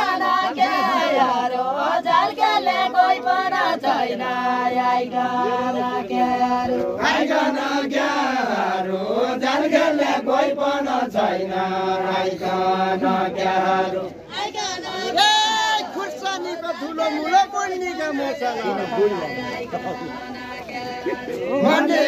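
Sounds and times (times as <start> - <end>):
voices chanting together: 0.0 - 22.0.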